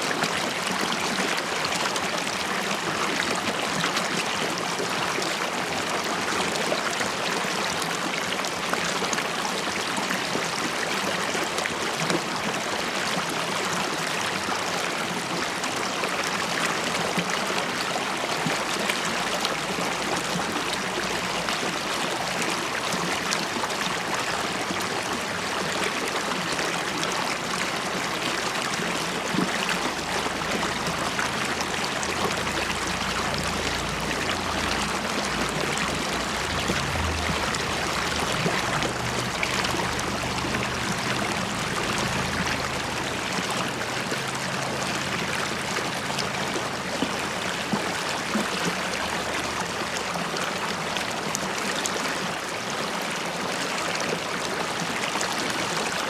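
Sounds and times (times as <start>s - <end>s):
river babbling over stones: 0.0s - 56.0s.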